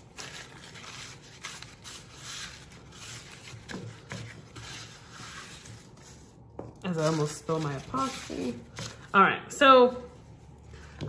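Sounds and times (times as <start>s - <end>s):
paper towel rubbing hard surface: 0.0s - 8.9s.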